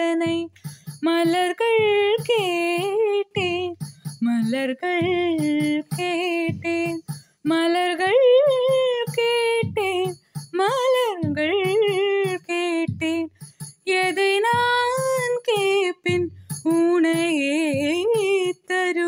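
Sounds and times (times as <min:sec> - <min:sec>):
woman singing wordless melody: 0:00.0 - 0:19.0.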